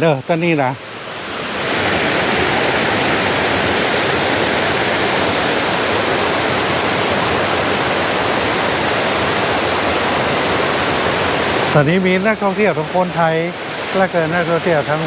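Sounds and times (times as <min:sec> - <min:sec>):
waterfall splashing over rocks: 0:00.1 - 0:15.0.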